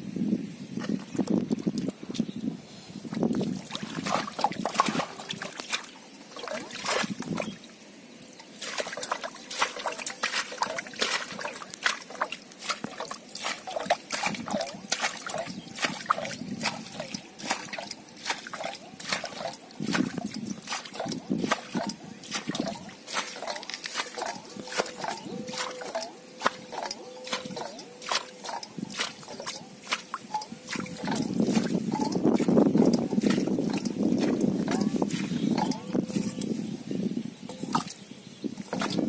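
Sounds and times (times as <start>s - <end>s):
muddy water splashing: 0.7s - 39.0s.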